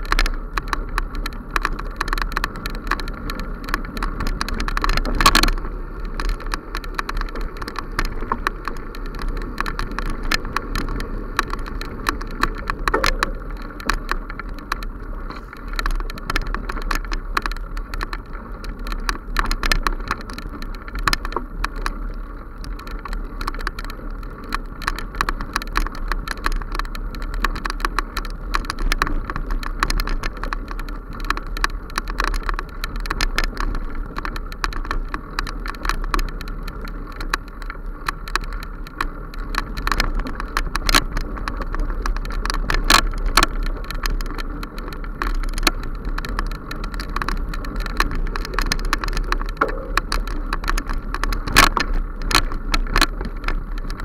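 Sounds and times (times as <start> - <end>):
bicycle tyres on dirt track: 0.0 - 54.0
bike rattling and knocking: 0.0 - 54.0
wind noise: 0.0 - 54.0.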